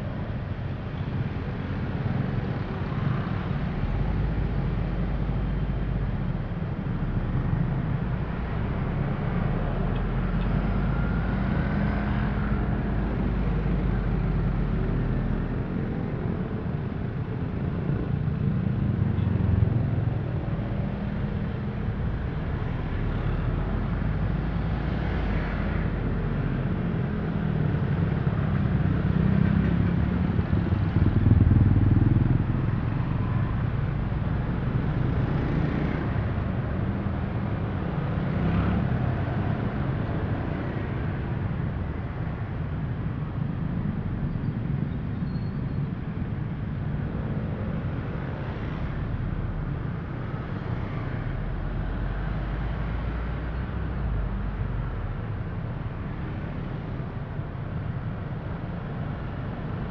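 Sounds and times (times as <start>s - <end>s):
motorcycle and car engines rumbling: 0.0s - 59.9s.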